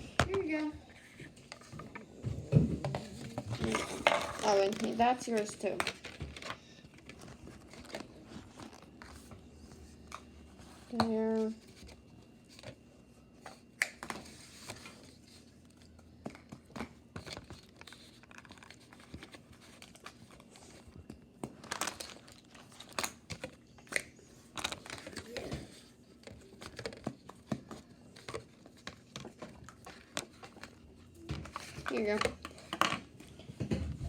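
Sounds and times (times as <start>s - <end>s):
plastic tubs crinkling and tapping: 0.0s - 9.4s, 10.1s - 12.8s, 13.4s - 34.0s.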